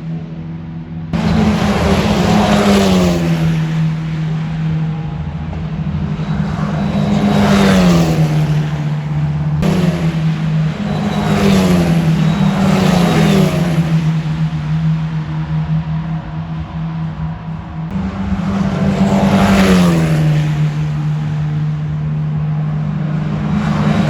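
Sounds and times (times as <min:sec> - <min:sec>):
racing car engines passing: 0:00.0 - 0:24.0.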